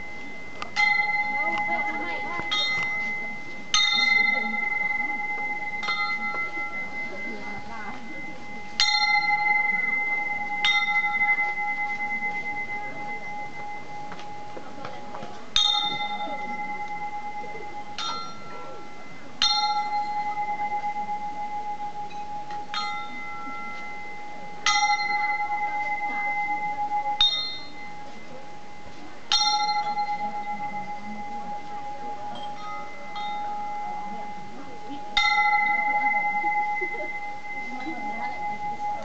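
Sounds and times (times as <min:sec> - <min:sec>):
metal bell ringing: 0:00.0 - 0:39.0.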